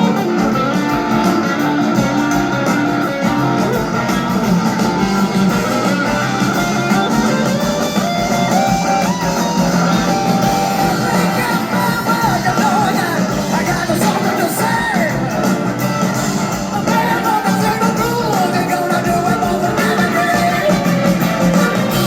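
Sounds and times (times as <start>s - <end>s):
lead electric guitar bending notes: 0.0s - 22.0s
live blues-rock band: 0.0s - 22.0s.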